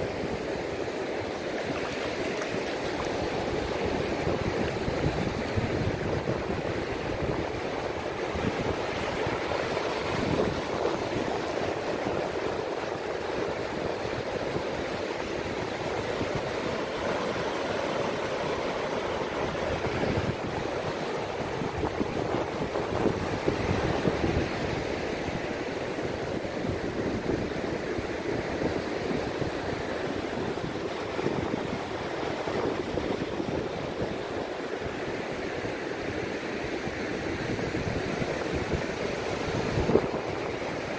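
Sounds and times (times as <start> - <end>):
ocean surf on beach: 0.0 - 40.9.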